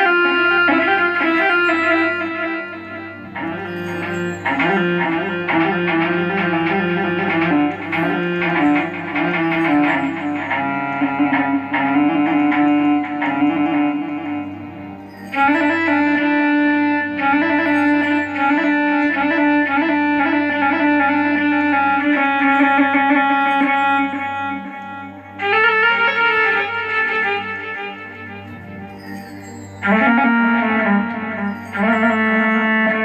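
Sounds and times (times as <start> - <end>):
bowed fiddle melody: 0.0 - 33.0.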